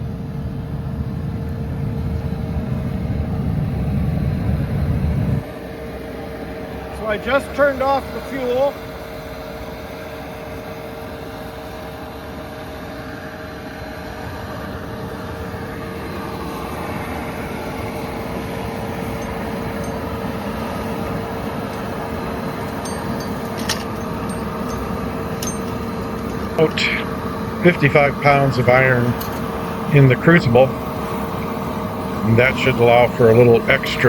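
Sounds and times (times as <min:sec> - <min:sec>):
air blower whining: 0:00.0 - 0:34.0.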